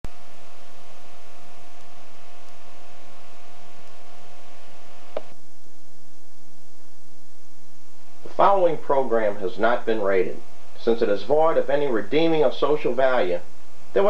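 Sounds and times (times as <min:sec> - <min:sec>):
electrical hum and hiss: 0:00.1 - 0:14.0.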